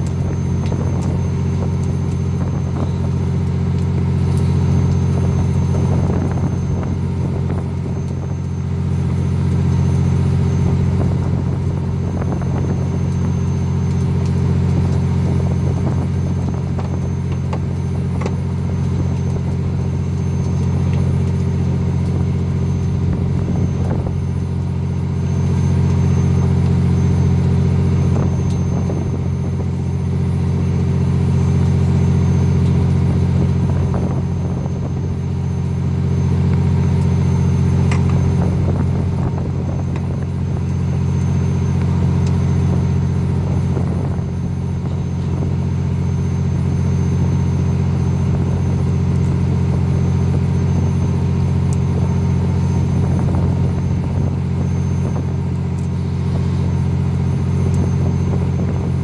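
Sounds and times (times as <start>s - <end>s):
boat engine low drone: 0.0s - 59.0s.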